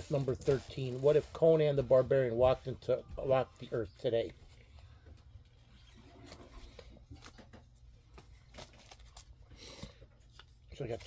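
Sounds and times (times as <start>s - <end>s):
comic books rustling: 0.0s - 11.0s.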